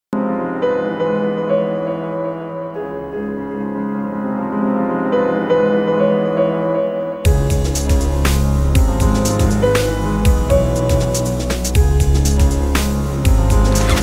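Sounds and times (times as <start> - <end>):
held keyboard chords: 0.1 - 14.0.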